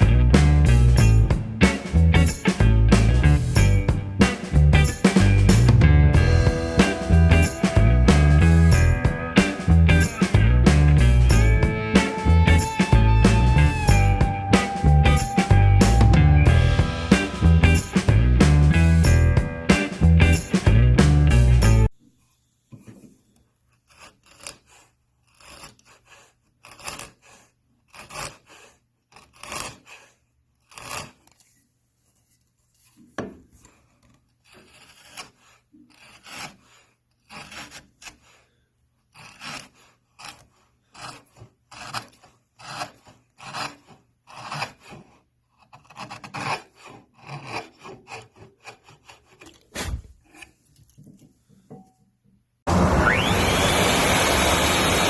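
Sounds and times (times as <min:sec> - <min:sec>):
hand tool rasping wood: 0:00.0 - 0:21.9, 0:23.7 - 0:31.5, 0:32.8 - 0:50.6.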